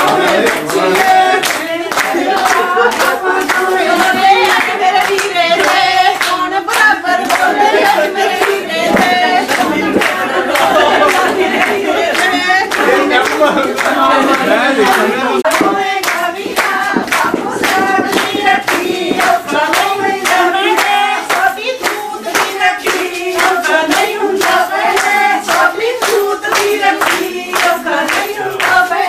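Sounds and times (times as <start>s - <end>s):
rhythmic hand-clapping: 0.0s - 29.0s
women singing: 0.0s - 29.0s.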